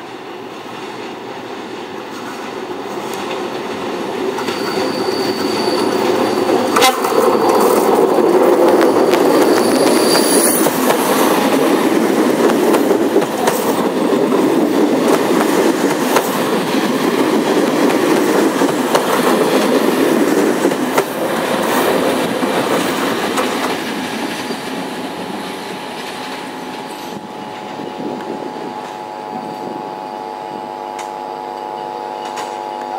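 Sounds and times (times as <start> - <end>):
train wheels rumbling and clacking: 0.0 - 29.8.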